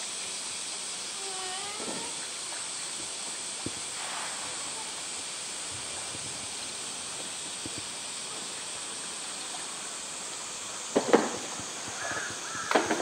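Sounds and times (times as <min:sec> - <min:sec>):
running water hissing: 0:00.0 - 0:13.0.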